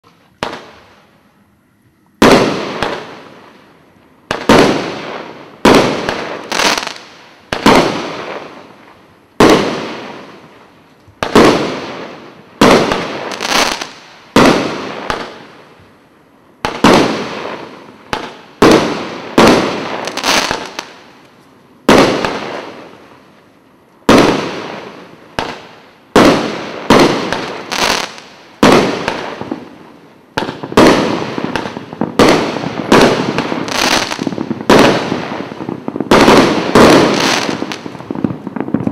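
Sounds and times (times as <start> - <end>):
fireworks bangs: 0.0 - 1.2, 2.2 - 16.0, 16.6 - 38.9.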